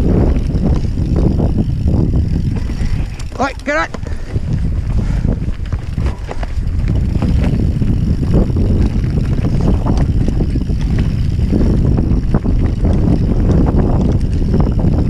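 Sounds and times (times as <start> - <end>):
bike clicks and clatters: 0.0 - 15.0
tyres rumbling on dirt: 0.0 - 15.0
wind buffeting microphone: 0.0 - 15.0.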